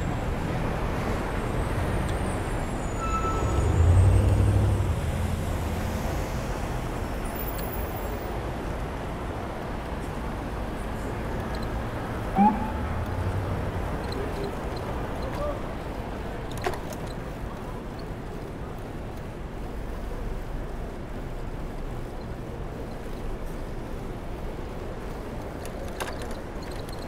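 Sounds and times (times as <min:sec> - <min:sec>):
bicycle road and wind noise: 0:00.0 - 0:27.0
vehicles passing: 0:00.0 - 0:27.0.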